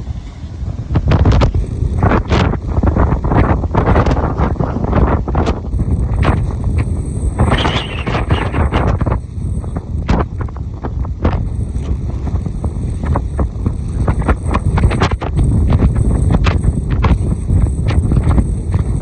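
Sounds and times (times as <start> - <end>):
rough sea: 0.0 - 19.0
wind buffeting microphone: 0.0 - 19.0.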